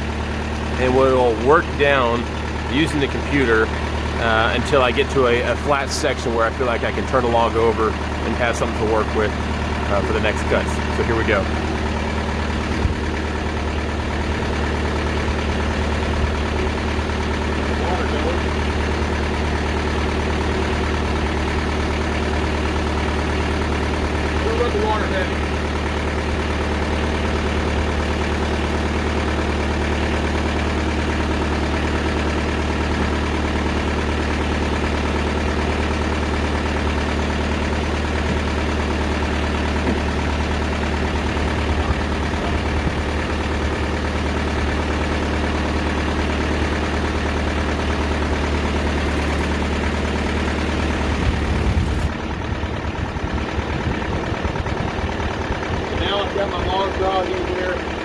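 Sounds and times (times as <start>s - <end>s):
sawmill diesel engine running: 0.0s - 58.0s.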